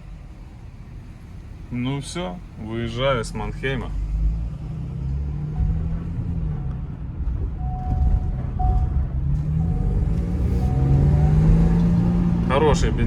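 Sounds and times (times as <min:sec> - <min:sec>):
van engine accelerating: 0:00.0 - 0:13.0.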